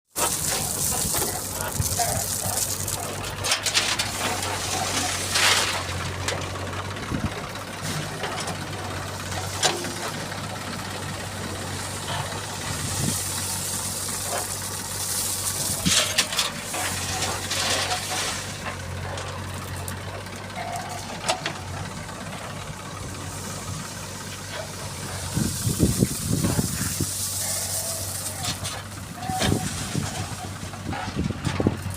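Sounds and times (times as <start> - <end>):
heavy diesel engine running: 0.1 - 31.9.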